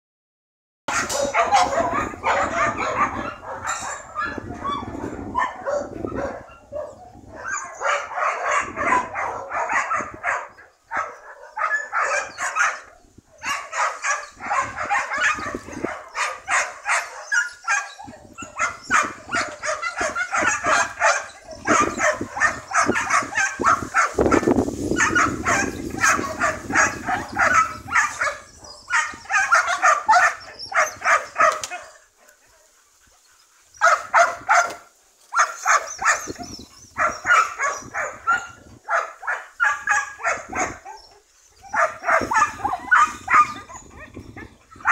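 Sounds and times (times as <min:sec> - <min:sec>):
dogs barking rapidly: 0:00.9 - 0:32.8, 0:33.6 - 0:44.9.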